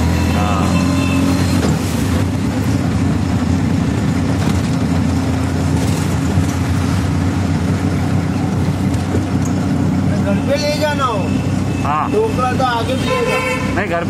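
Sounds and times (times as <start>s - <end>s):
auto rickshaw engine running: 0.0s - 14.0s
road and traffic noise: 0.0s - 14.0s.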